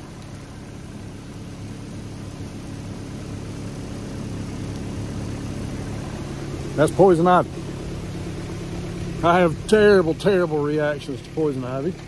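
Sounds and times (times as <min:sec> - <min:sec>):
excavator engine idling: 0:00.0 - 0:12.0.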